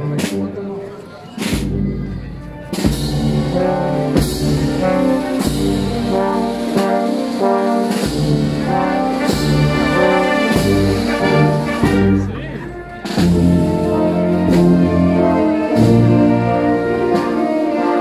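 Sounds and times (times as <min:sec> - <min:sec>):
brass band playing a slow march: 0:00.0 - 0:18.0
heavy drum strokes: 0:00.0 - 0:18.0.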